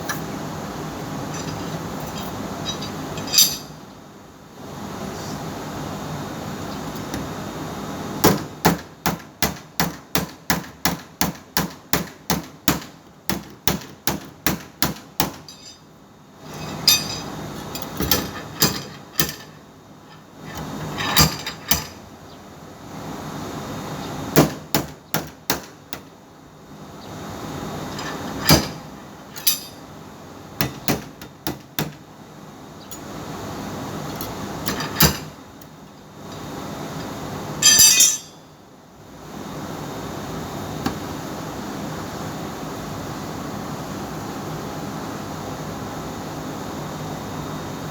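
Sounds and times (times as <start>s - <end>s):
steady background noise: 0.0s - 47.9s.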